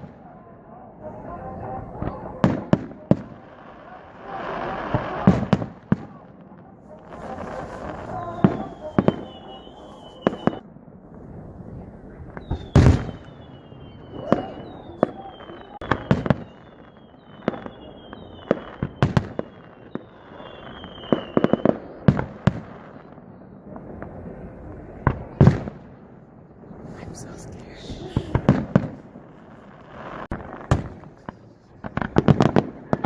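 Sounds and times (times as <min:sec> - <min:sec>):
fireworks bangs: 0:00.0 - 0:33.0
whistling fireworks: 0:00.0 - 0:33.0.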